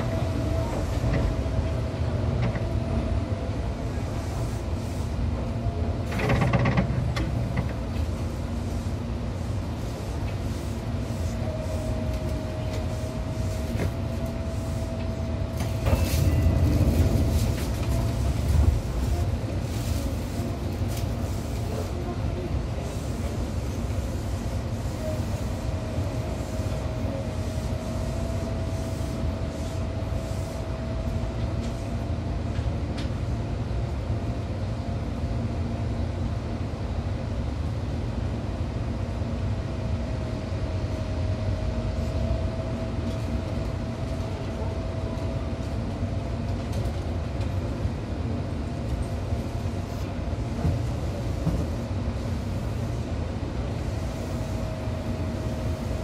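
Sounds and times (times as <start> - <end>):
train interior rumble and hum: 0.0 - 56.0.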